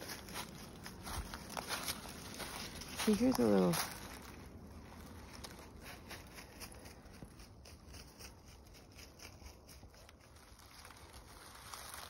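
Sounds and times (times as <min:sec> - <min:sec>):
dry leaves crunching underfoot: 0:00.0 - 0:12.0.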